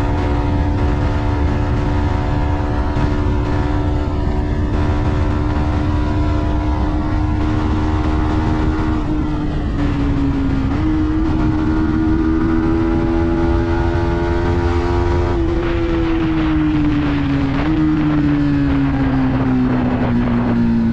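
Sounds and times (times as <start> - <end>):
motorcycle engine running: 0.0 - 20.9
wind rumble: 0.0 - 20.9.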